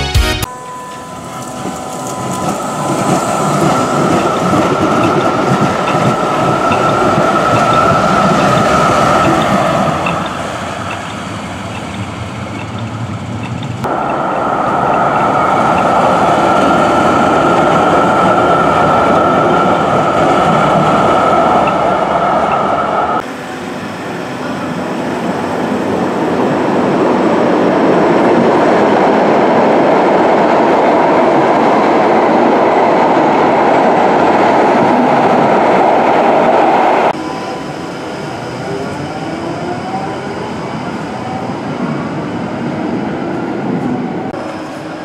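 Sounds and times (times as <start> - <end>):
tram chopper whine: 0.0 - 45.0
tram wheel and rail noise: 0.4 - 45.0.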